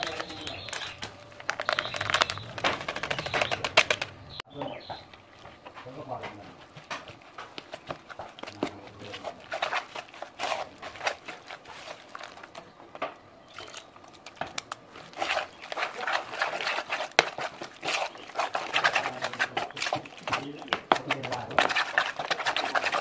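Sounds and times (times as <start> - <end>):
spoon stirring batter in bowl: 0.0 - 23.0.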